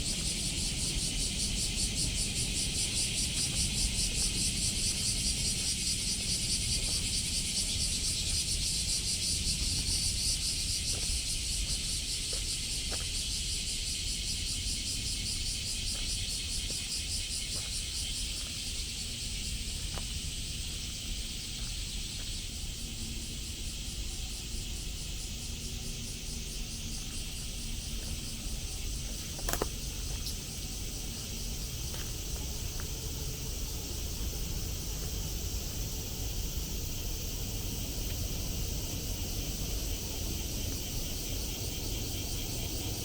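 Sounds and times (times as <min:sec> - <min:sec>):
cicadas singing: 0:00.0 - 0:43.0.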